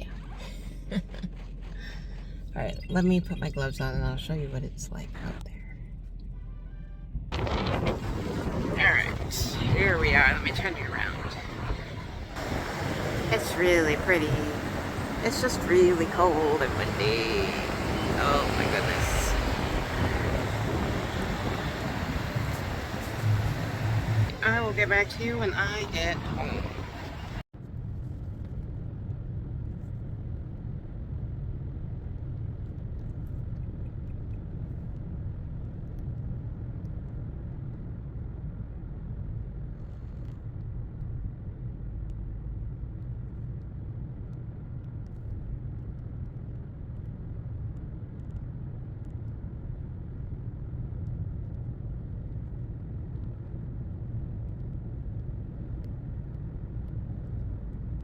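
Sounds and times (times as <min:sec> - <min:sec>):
car driving rumble from inside: 0:00.0 - 0:58.0.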